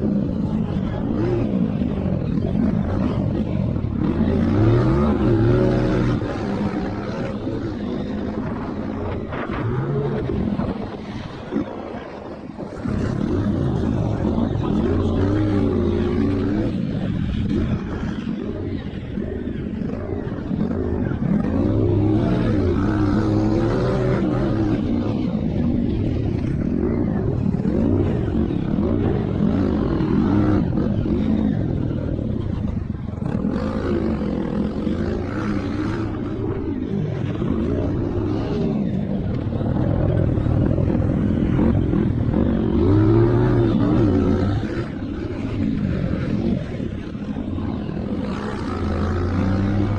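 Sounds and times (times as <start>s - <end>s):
motocross bike engines revving: 0.0s - 49.9s.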